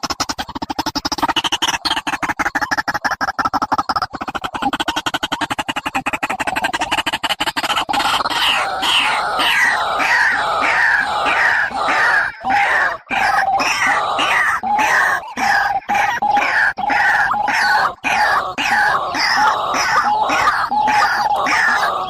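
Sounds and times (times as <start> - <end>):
fast rattling bird notes: 0.0 - 22.0.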